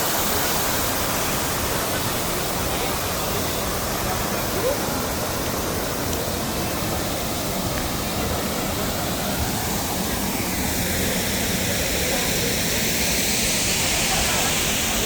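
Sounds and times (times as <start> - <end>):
fountain water rushing: 0.0 - 15.0.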